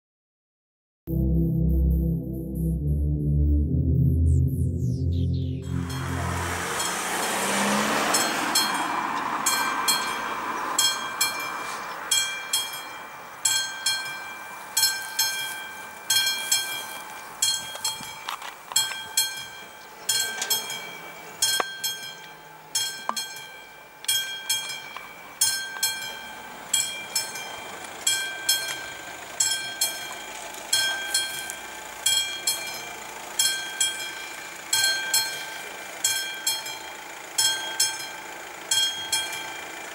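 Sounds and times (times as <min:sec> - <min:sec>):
level crossing warning bell: 0:05.7 - 0:39.9.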